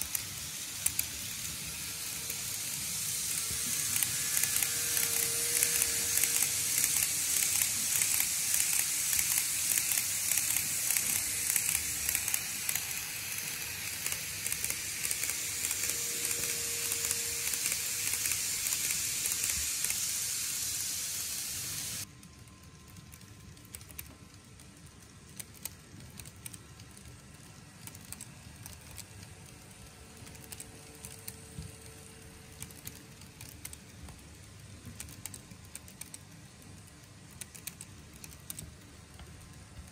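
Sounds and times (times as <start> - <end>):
model trains running on track: 0.0 - 24.0, 25.4 - 34.4, 35.0 - 39.9.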